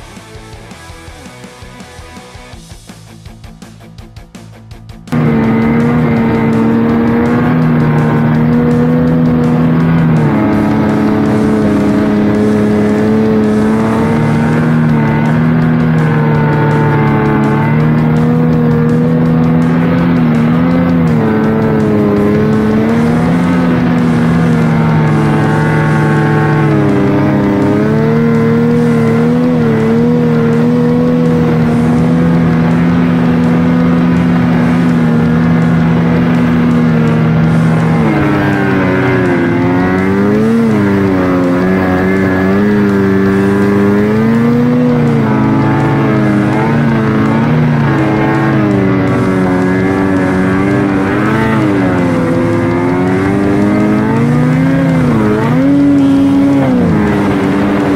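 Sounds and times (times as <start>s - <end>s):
snowmobile engine revving: 5.1s - 57.9s.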